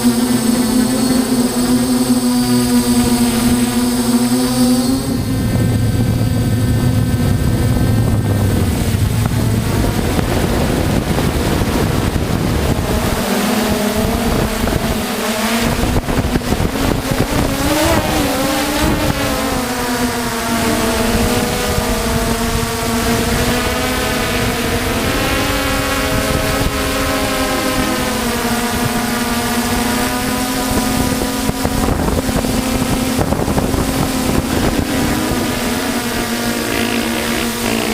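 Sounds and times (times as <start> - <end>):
drone propellers humming: 0.0 - 37.9.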